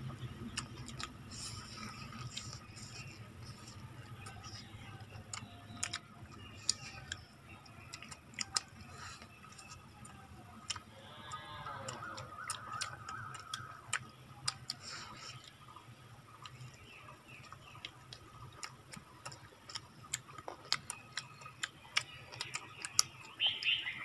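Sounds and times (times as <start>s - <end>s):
chewing and lip smacking: 0.0s - 24.0s.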